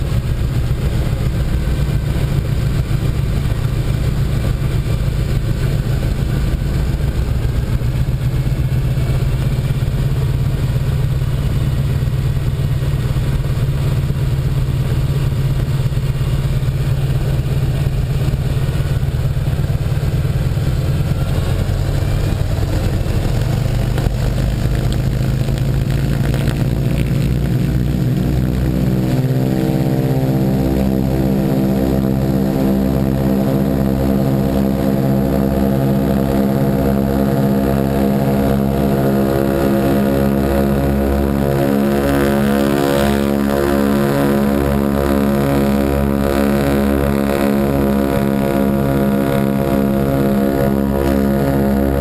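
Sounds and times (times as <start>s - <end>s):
propeller plane engine drone: 0.0s - 52.0s.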